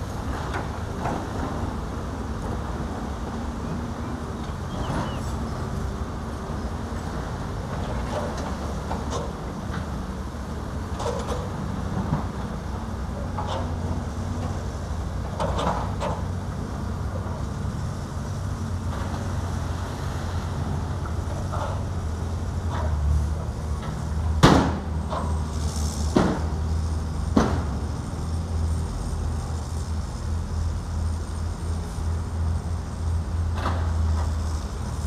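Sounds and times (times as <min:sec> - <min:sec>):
diesel engines rumbling: 0:00.0 - 0:35.0.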